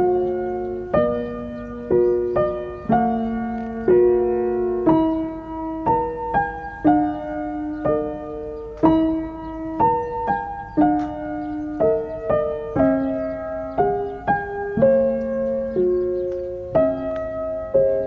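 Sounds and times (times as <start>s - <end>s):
gentle solo piano: 0.0s - 18.0s.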